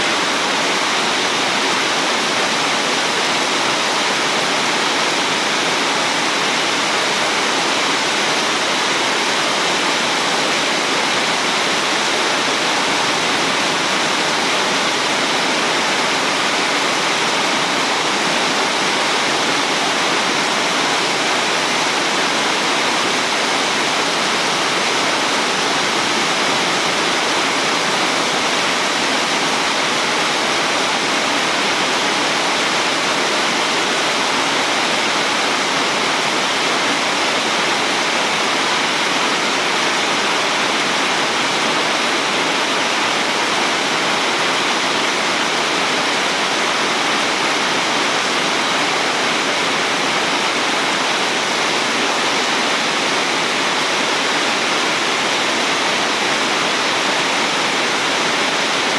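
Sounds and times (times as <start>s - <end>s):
heavy rain pouring: 0.0s - 58.9s.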